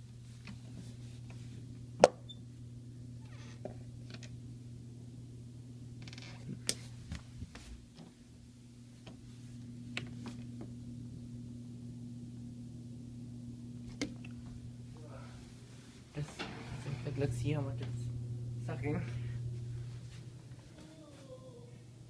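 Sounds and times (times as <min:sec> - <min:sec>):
air conditioning blower hum: 0:00.0 - 0:22.0.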